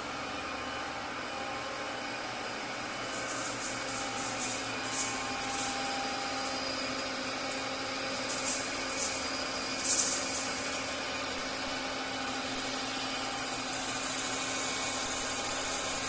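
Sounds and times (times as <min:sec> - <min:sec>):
lathe running with whine: 0:02.6 - 0:16.0.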